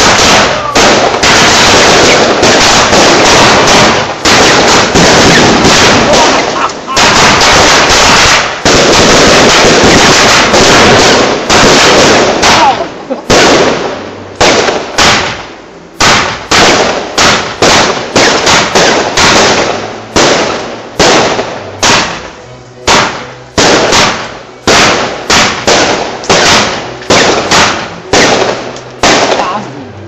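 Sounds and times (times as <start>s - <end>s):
firework shells bursting: 0.0s - 29.6s.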